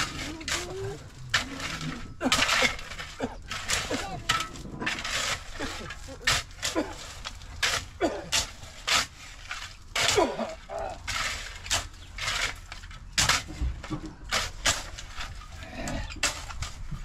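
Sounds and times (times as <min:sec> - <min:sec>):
spades scraping through gravel: 0:00.0 - 0:17.0.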